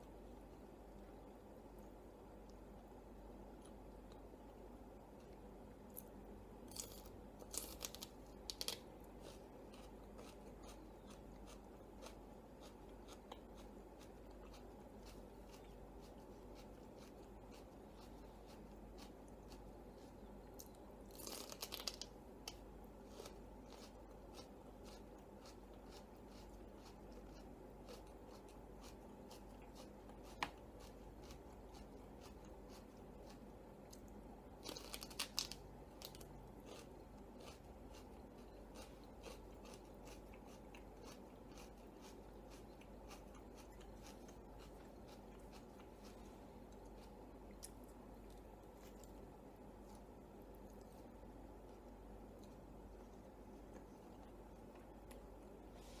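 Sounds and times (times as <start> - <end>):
close chewing with small clicks: 0.0 - 55.7
celery crunching: 5.2 - 55.5.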